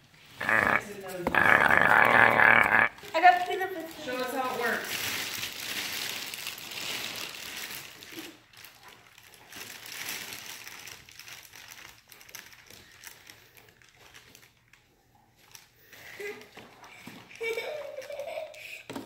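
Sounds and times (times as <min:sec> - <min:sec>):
wrapping paper crinkling: 0:00.4 - 0:18.6.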